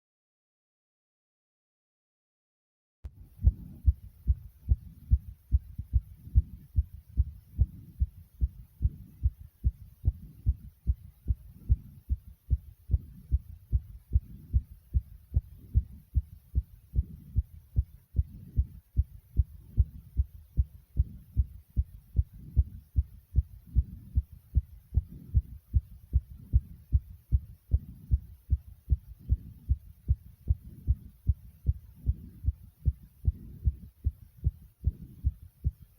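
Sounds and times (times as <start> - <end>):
fast heartbeat thumps: 3.1 - 35.9.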